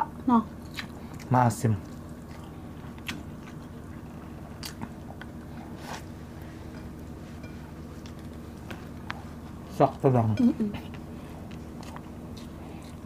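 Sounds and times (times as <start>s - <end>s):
person chewing food: 0.6s - 10.0s, 10.8s - 13.0s.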